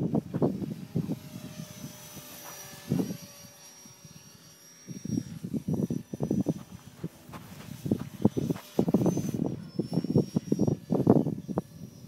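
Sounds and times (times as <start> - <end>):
model helicopter rotor whine: 0.0 - 12.0
wind buffeting microphone: 0.0 - 12.0.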